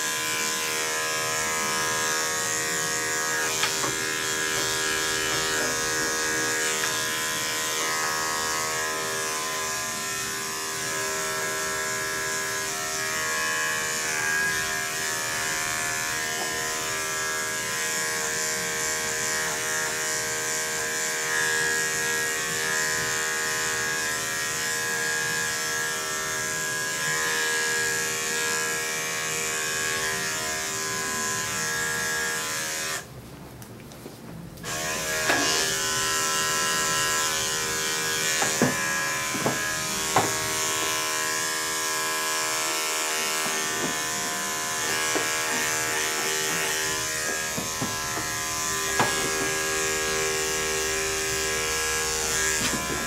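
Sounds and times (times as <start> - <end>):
electric clippers humming: 0.0 - 33.1, 34.6 - 53.0.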